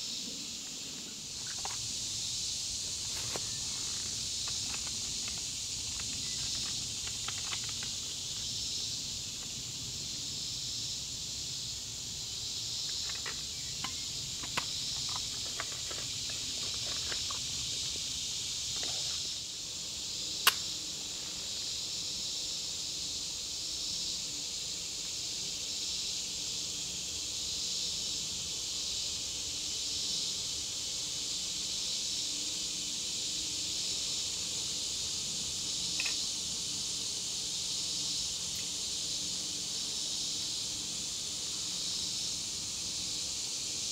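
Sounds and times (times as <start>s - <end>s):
insects buzzing: 0.0s - 43.9s.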